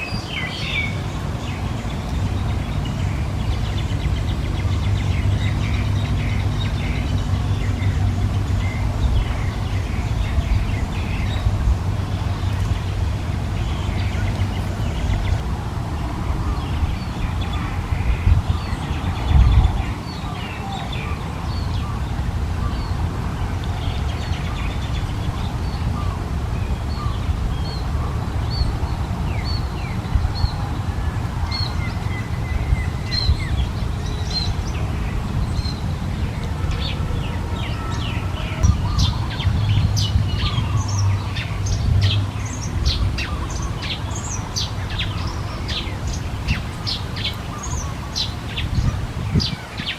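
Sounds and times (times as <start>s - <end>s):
steady low rumble: 0.0s - 49.5s
birds chirping: 0.0s - 49.9s.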